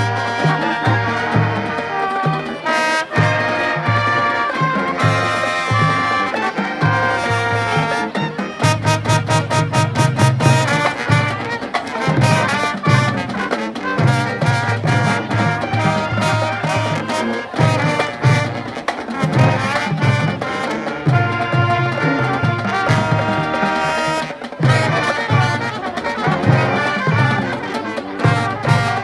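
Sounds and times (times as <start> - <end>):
drum strokes: 0.0 - 29.0
marching band brass melody: 0.0 - 29.0.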